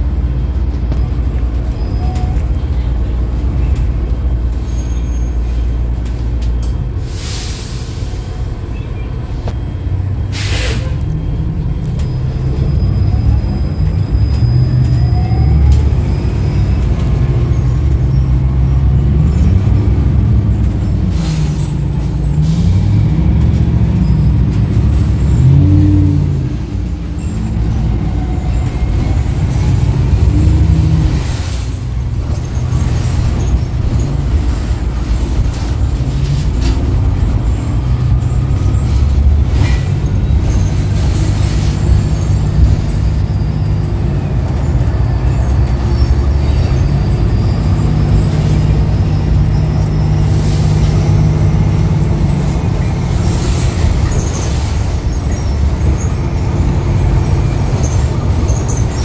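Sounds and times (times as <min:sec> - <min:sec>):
bus drive sound: 0:00.0 - 0:59.0.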